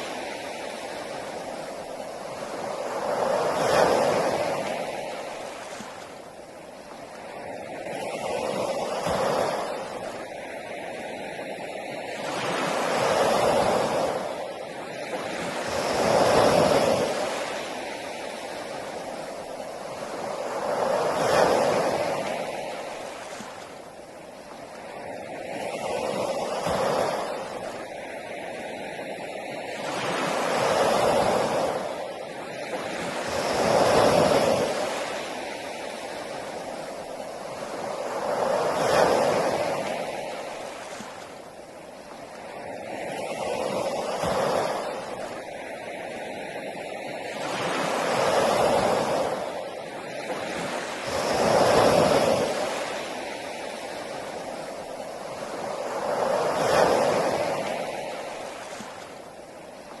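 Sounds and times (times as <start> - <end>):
ocean waves breaking on beach: 0.0 - 60.0.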